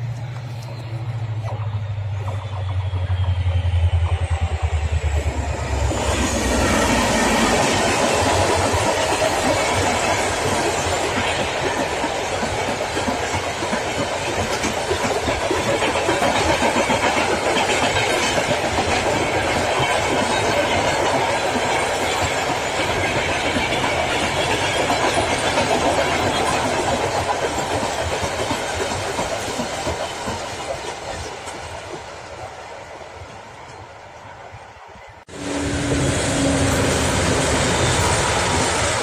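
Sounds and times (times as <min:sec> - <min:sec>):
freight train clattering over rails: 0:00.0 - 0:34.3, 0:35.5 - 0:39.0.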